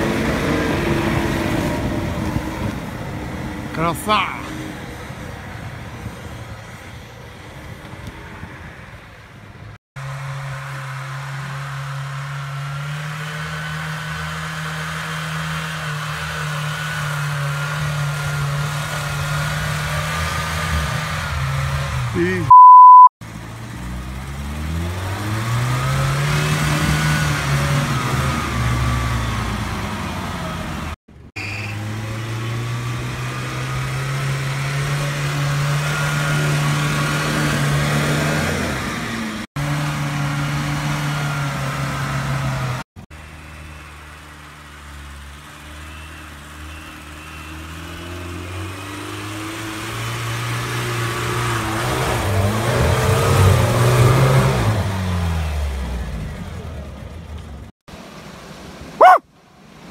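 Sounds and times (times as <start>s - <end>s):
engine revving under load: 0.0s - 8.8s, 10.0s - 57.7s, 59.0s - 59.2s.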